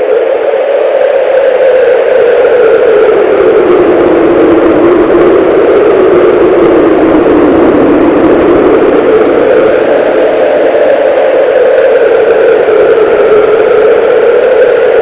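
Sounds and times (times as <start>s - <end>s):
cartoon wind blowing: 1.3s - 15.0s.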